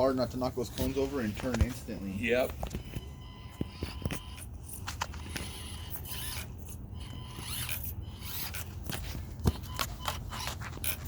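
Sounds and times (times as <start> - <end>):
small electric motor and gears whirring: 0.7 - 11.0.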